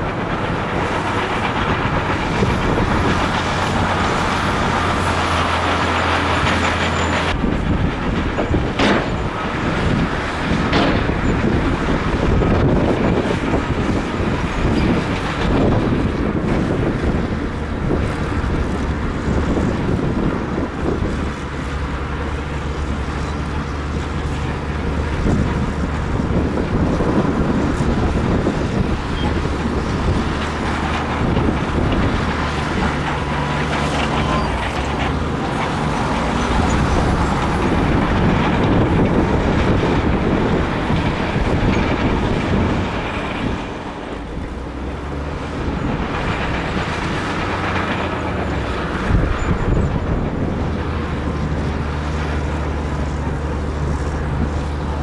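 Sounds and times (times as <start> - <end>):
bulldozer engine under load: 0.0 - 55.0.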